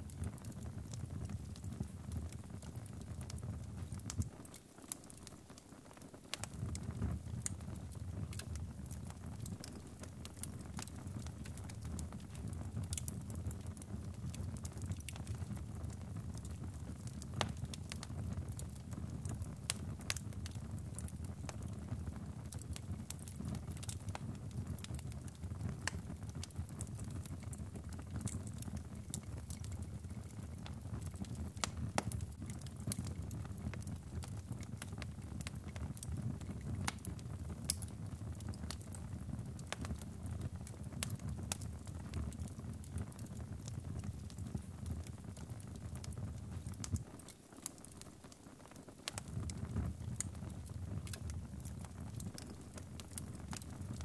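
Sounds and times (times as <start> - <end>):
low rumble of flames: 0.0 - 5.7, 6.3 - 54.0
burning wood crackling and popping: 0.0 - 54.0.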